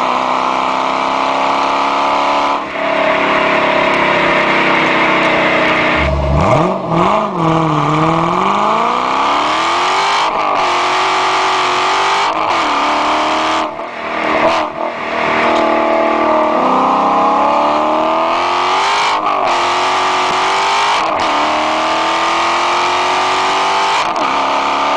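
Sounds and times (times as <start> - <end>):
car engine accelerating through gears: 0.0 - 24.9.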